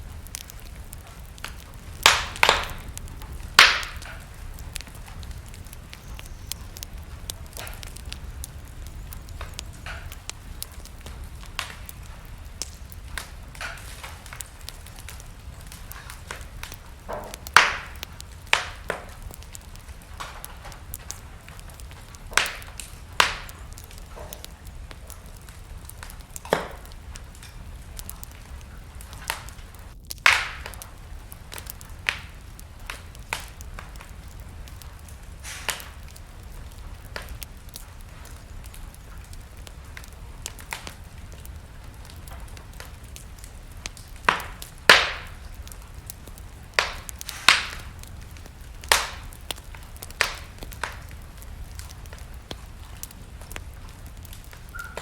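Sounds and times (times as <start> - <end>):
fire crackling and popping: 0.0 - 55.0
low rumble of fire: 0.0 - 55.0.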